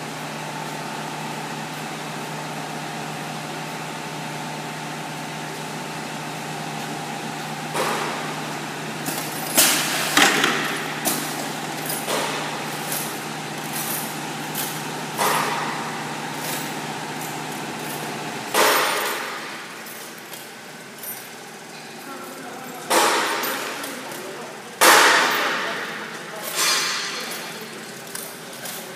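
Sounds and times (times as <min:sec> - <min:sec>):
machine hum: 0:00.0 - 0:26.4.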